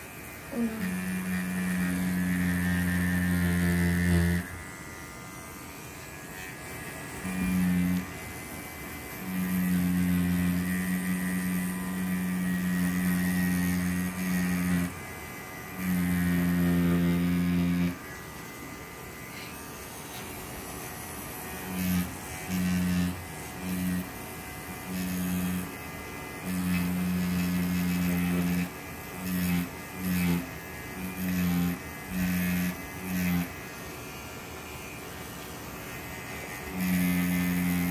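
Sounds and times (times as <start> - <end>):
tattoo machine buzzing: 0.0 - 37.9.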